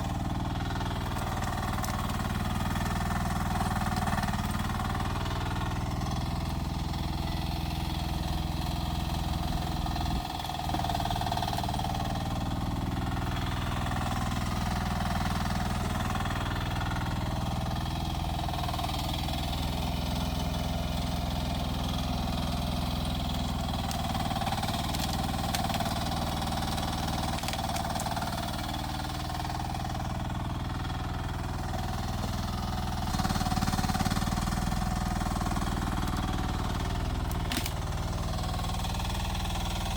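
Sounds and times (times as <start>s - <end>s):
small excavator engine running: 0.0s - 39.9s.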